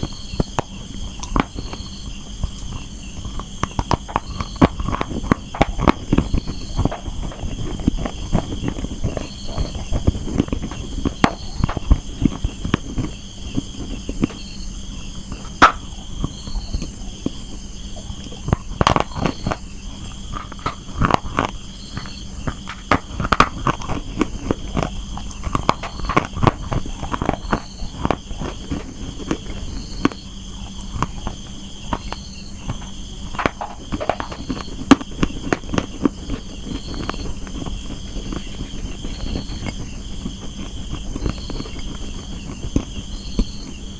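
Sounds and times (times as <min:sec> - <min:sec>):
faint steady hum: 0:00.0 - 0:43.9
person chewing dry clay crunches: 0:00.0 - 0:43.9.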